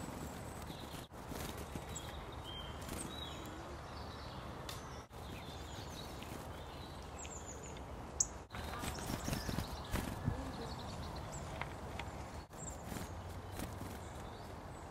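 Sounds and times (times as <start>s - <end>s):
outdoor background noise: 0.0s - 14.9s
small birds chirping: 0.0s - 14.9s.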